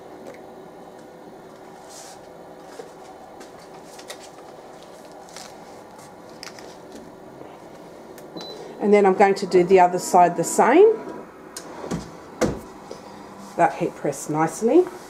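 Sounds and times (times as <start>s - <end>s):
heat press humming: 0.0s - 15.0s.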